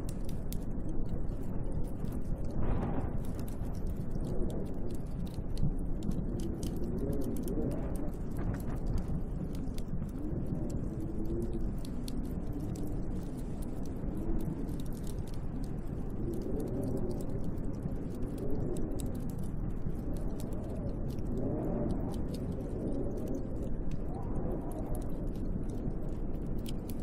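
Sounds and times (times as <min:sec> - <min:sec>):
faint crackles and ticks: 0:00.0 - 0:27.0
steady low rumble: 0:00.0 - 0:27.0
wind howling: 0:00.0 - 0:27.0.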